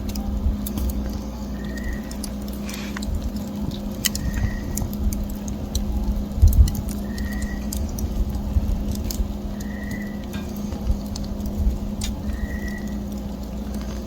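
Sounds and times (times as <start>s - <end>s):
campfire crackling: 0.0s - 14.0s
low hum and rumble: 0.0s - 14.0s.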